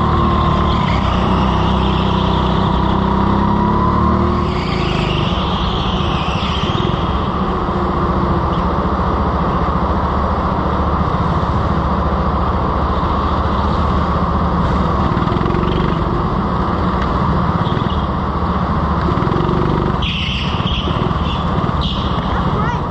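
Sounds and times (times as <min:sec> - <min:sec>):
go-kart motor hum: 0:00.0 - 0:22.9
tyre and road noise: 0:00.0 - 0:22.9.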